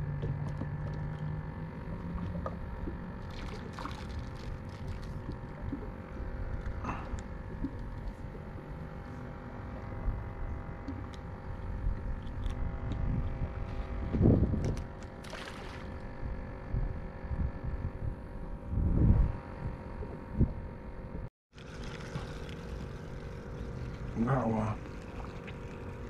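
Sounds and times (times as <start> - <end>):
boat engine low rumble: 0.0 - 26.0
faint steady hum: 0.0 - 26.0.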